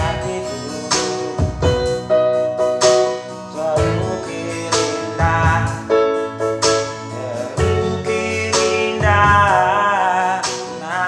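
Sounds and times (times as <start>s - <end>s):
keyboard chords: 0.0s - 11.0s
person singing pop ballad: 0.0s - 11.0s.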